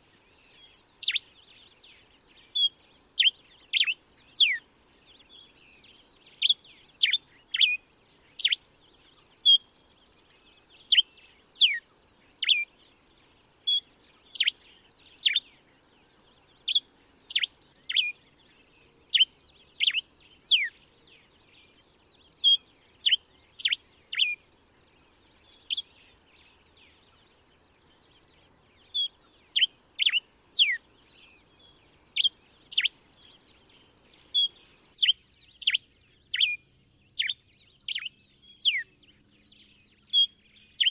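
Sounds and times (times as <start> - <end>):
finch singing: 0.0 - 40.9.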